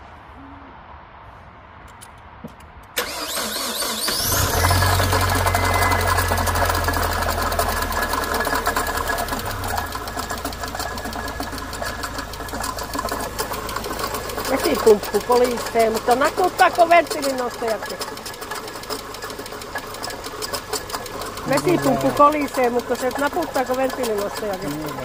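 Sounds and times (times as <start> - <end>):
car engine ticking rattle: 2.5 - 25.0
starter motor cranking: 3.0 - 25.0.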